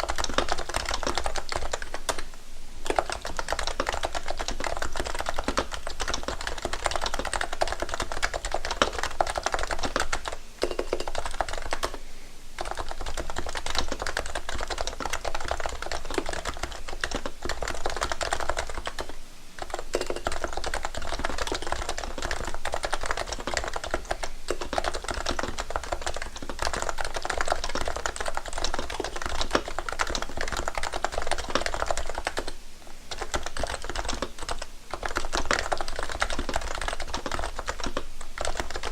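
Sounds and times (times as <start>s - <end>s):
fast typing on keyboard: 0.0s - 12.0s, 12.6s - 38.9s.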